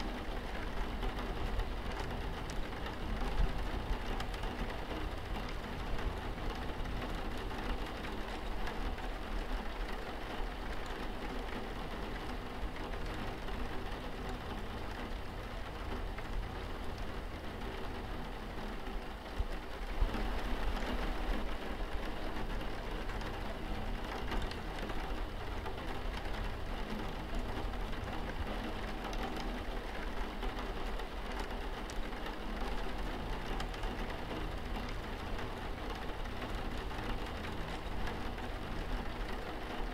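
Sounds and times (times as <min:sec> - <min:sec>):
rain on a window pane: 0:00.0 - 0:39.9.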